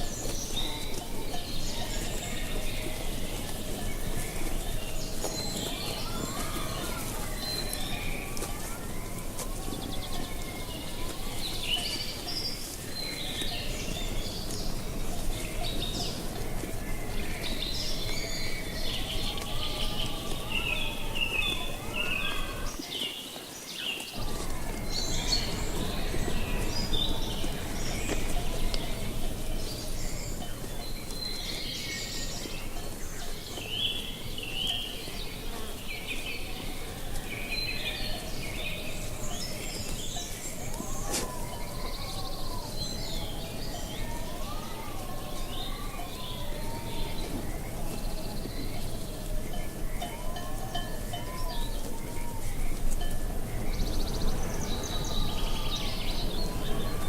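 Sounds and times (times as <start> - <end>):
low wind noise: 0.0 - 22.9, 24.1 - 57.0
small birds chirping: 0.0 - 57.0.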